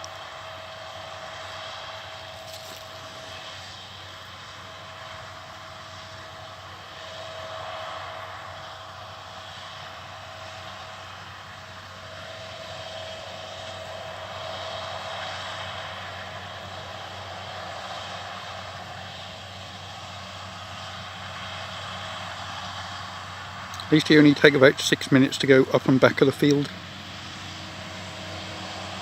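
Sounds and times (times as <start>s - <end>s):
distant tractor engine drone: 0.0s - 29.0s.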